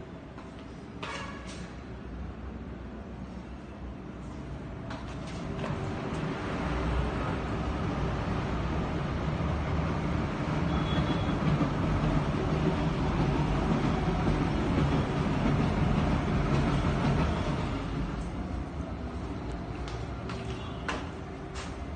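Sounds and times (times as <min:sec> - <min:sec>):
passing train rumble: 0:00.0 - 0:21.9.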